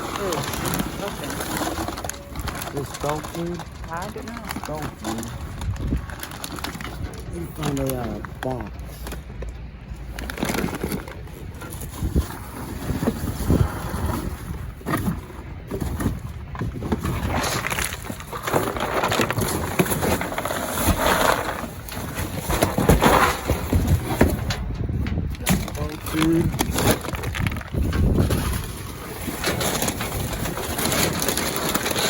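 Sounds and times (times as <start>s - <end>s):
bags and packages rustling: 0.0s - 32.0s.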